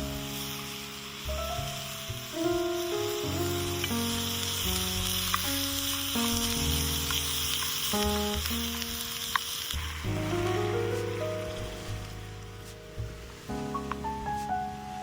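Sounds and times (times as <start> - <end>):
background music: 0.0 - 15.0
food sizzling in a pan: 0.0 - 15.0.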